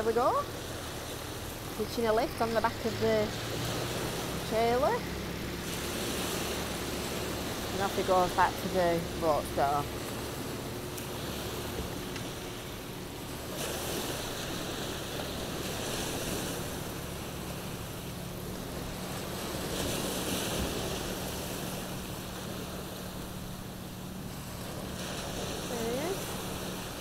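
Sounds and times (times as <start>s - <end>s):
faint engine hum: 0.0s - 27.0s
sea waves washing ashore: 0.0s - 27.0s.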